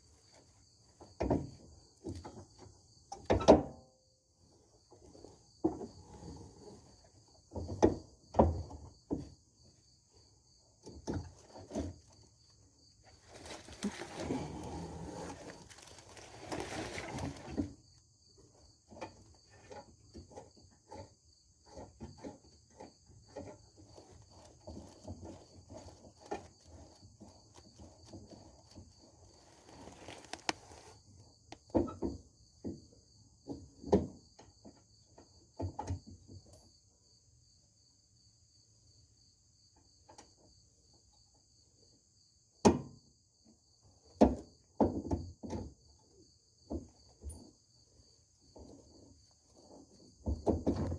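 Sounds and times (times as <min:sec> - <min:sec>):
crickets chirping: 0:04.0 - 0:50.9.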